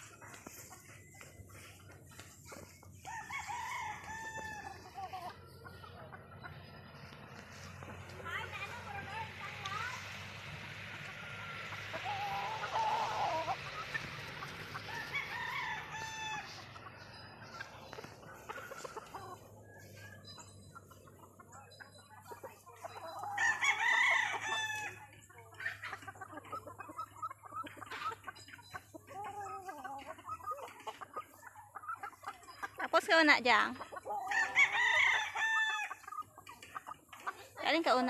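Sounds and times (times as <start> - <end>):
chickens clucking: 0.0 - 38.0
roosters crowing: 1.6 - 21.3, 22.7 - 37.6.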